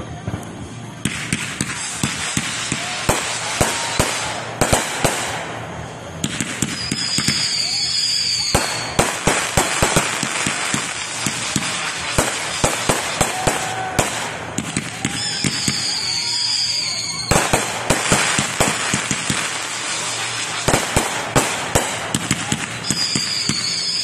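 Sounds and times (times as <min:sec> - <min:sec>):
firework whistle: 0:00.0 - 0:24.0
fireworks crackling: 0:00.0 - 0:24.0
fireworks popping and banging: 0:00.0 - 0:24.0.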